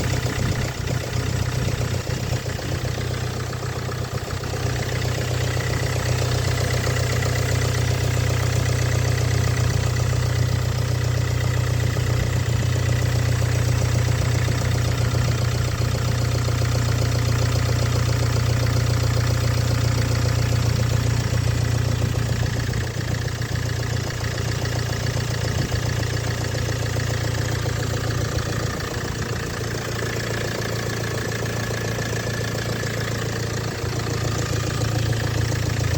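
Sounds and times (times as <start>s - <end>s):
engine idling with rapid knocking: 0.0s - 35.9s.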